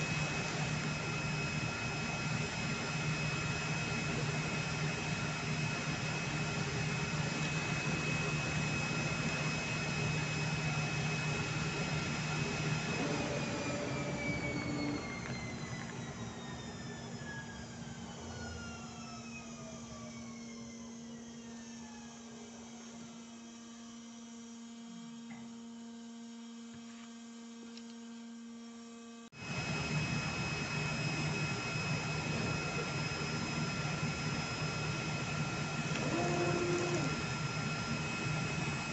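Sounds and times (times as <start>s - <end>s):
machine hum with falling whines: 0.0s - 38.9s
machine noise with high whine: 0.0s - 38.9s.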